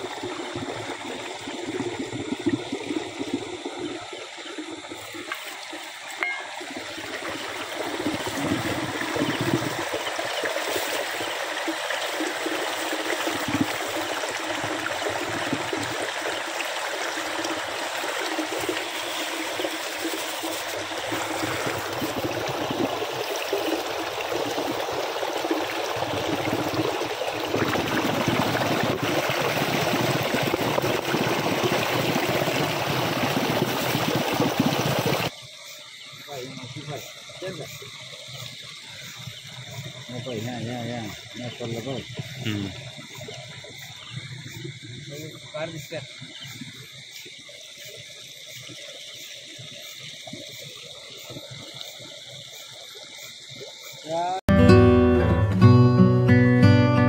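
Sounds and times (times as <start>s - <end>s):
water running and splashing: 0.0s - 35.4s, 36.2s - 54.4s.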